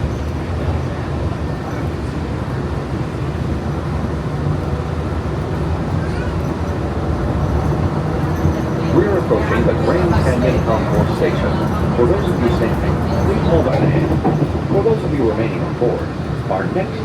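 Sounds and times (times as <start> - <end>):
monorail train rumble and hum: 0.0 - 17.0.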